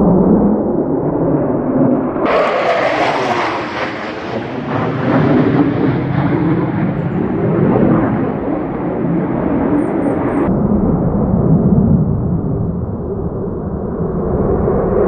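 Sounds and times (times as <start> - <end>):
jet engines flying overhead: 0.0 - 15.0.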